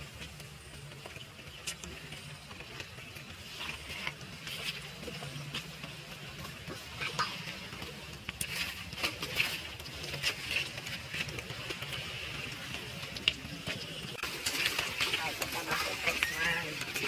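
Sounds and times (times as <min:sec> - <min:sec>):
light crackles: 0:00.0 - 0:17.0.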